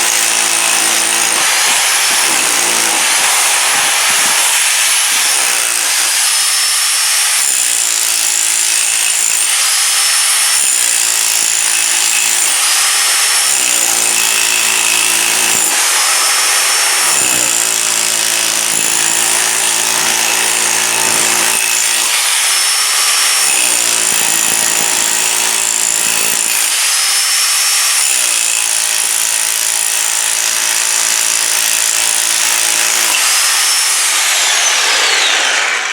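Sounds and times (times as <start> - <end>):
rotary hammer chipping concrete: 0.0 - 35.9.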